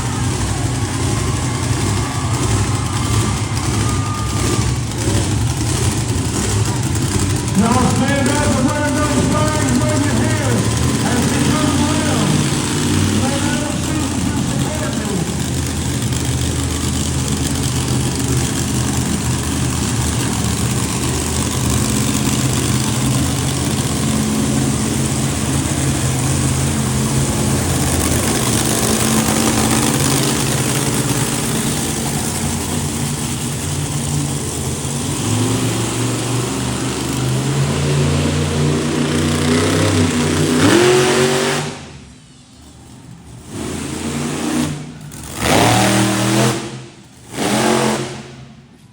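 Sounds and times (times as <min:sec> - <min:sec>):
truck engines revving: 0:00.0 - 0:48.9.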